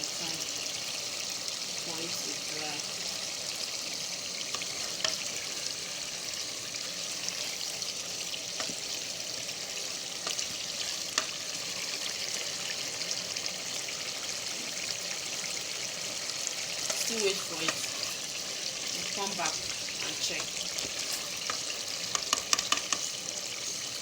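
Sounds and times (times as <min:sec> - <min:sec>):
pot of tomatoes boiling in oil: 0:00.0 - 0:24.0.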